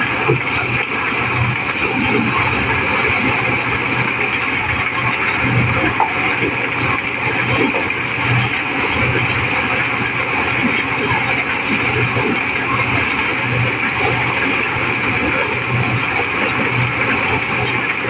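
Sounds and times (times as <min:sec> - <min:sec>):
corn sheller engine din: 0:00.0 - 0:18.0.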